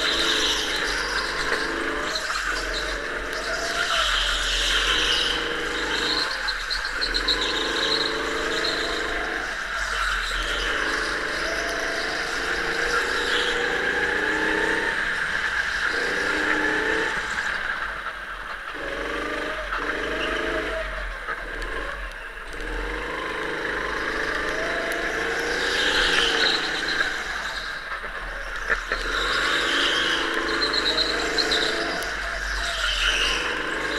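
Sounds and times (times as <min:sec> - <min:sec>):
go-kart engine: 0:00.0 - 0:33.9.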